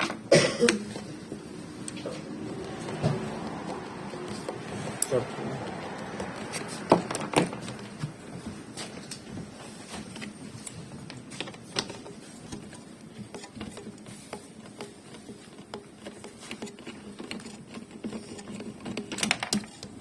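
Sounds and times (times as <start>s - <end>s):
hand tools clicking and knocking: 0.0s - 20.0s.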